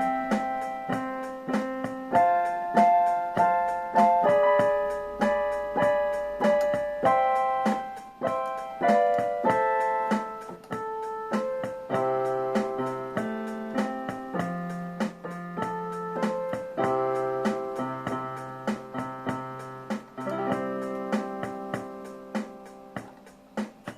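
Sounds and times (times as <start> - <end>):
electronic keyboard piano chords: 0.0 - 23.9.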